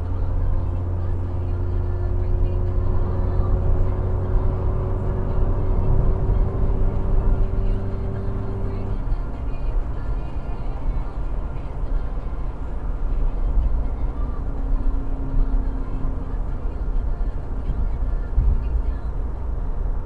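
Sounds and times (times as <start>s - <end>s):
road and engine noise in car: 0.0s - 20.0s.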